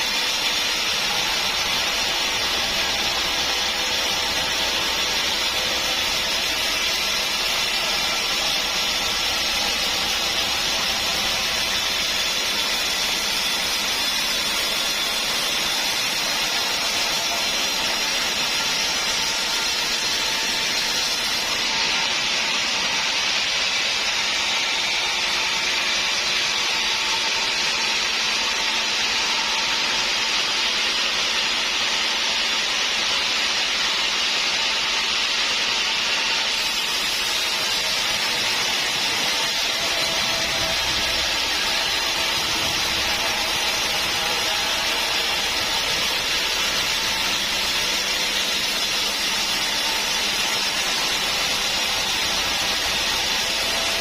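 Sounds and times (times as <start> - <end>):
saw cutting wood: 0.0 - 54.0.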